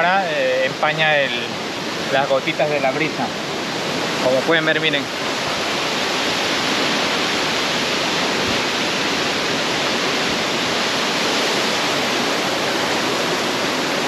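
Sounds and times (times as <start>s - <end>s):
waterfall onto rocks: 0.0s - 14.0s.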